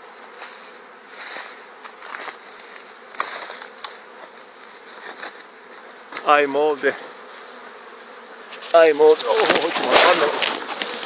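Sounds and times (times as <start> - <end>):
leaves rustling: 0.0 - 6.2, 6.8 - 11.0
bees buzzing: 0.0 - 11.0.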